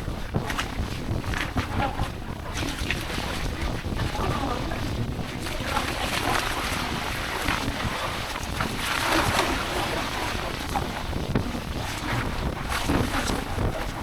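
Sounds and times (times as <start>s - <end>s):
sea water washing and splashing: 0.0s - 14.0s
wind buffeting microphone: 0.0s - 14.0s.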